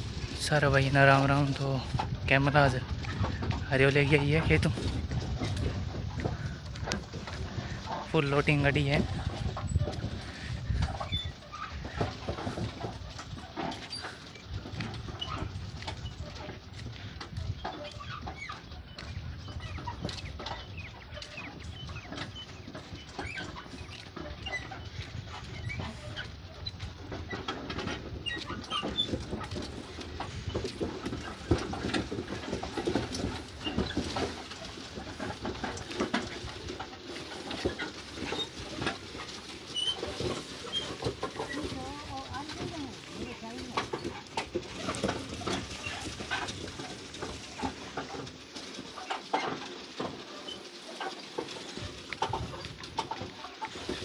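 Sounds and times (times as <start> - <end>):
cart rattling on dirt track: 0.0 - 54.0.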